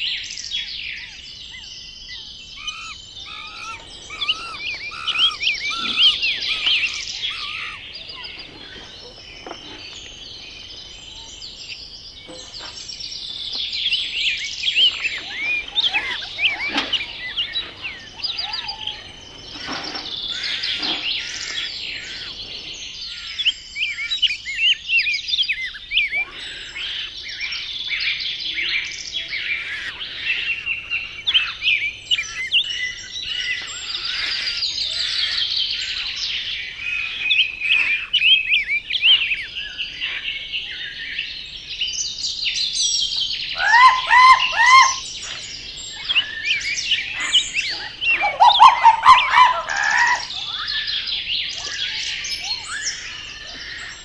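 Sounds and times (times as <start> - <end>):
birds chirping and singing: 0.0 - 54.0
lower repeated bird calls: 0.0 - 54.0.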